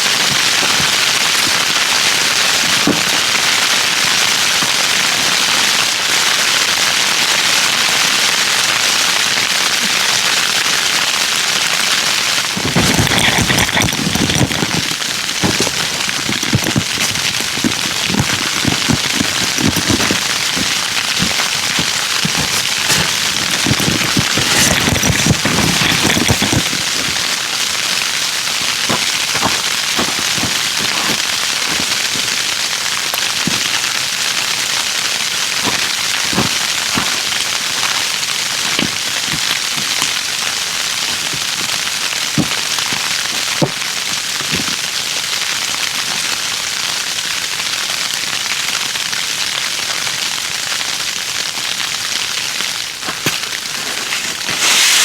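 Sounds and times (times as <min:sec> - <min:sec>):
campfire hissing and crackling: 0:00.0 - 0:55.0.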